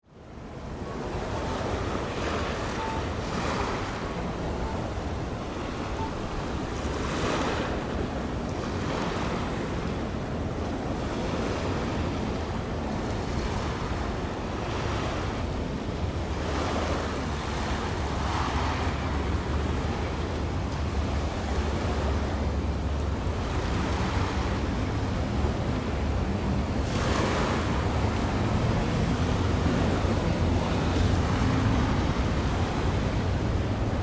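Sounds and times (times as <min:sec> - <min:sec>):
sea waves washing: 0:00.1 - 0:34.0.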